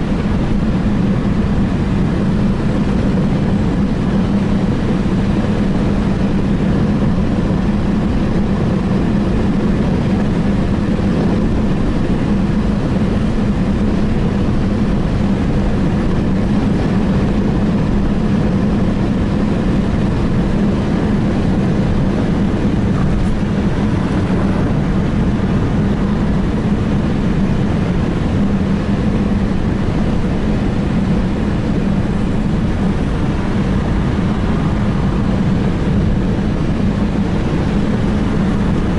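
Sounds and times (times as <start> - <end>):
car engine and tyre noise: 0.0 - 38.9
constant low hum: 0.0 - 38.9.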